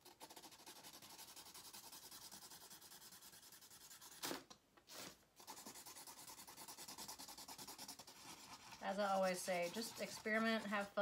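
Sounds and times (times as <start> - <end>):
marker scribbling on paper: 0.0 - 4.3, 5.4 - 11.0.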